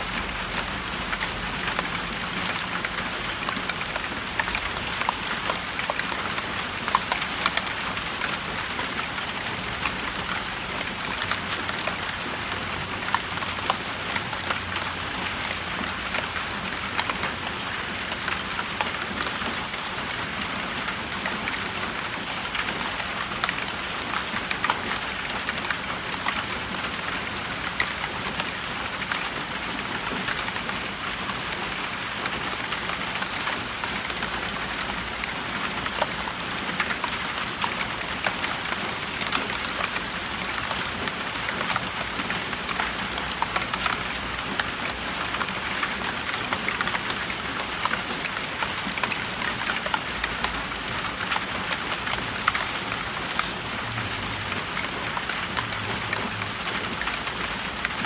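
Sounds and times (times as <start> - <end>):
rain on a tin roof: 0.0 - 58.0
raindrops tapping balloons: 0.0 - 58.0.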